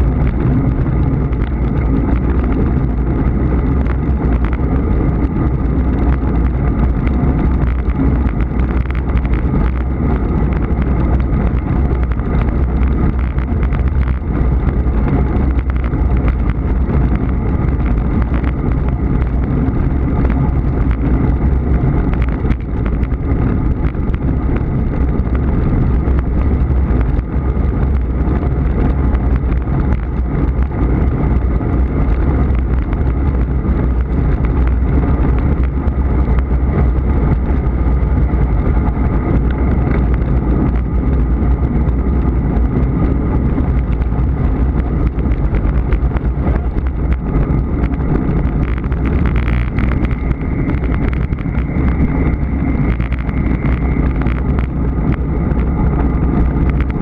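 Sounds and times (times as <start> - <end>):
bicycle tyre road noise: 0.0 - 57.0
faint steady whine: 0.0 - 57.0
wind rushing over microphone: 0.0 - 57.0.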